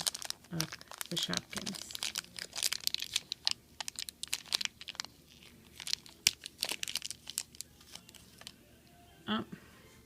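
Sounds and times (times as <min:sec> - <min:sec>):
wrapping crinkling and tearing: 0:00.0 - 0:08.6.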